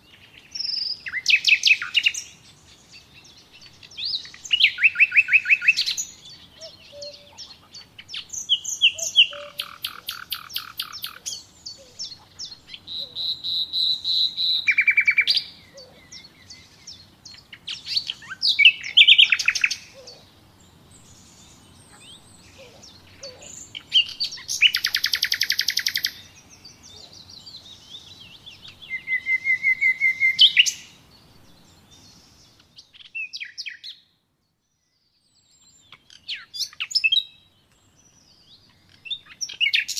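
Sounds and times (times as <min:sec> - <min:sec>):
faint background hiss: 0:00.0 - 0:39.9
songbirds trilling and chirping: 0:00.0 - 0:39.9.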